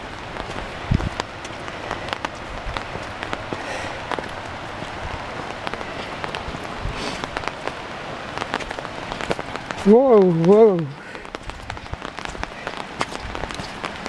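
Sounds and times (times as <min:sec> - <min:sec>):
light rain drops ticking: 0:00.0 - 0:14.0.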